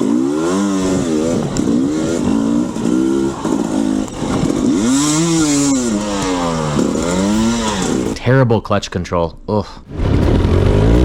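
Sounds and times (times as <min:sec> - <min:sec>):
dirt bike engine revving: 0:00.0 - 0:08.2, 0:09.9 - 0:11.0.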